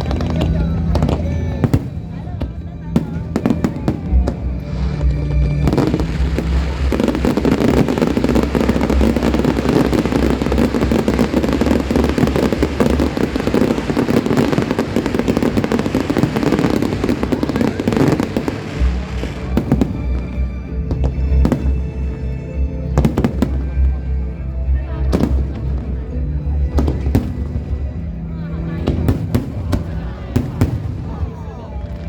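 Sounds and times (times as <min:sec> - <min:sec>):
fireworks bangs and crackles: 0:00.0 - 0:32.0
show music: 0:00.0 - 0:32.0.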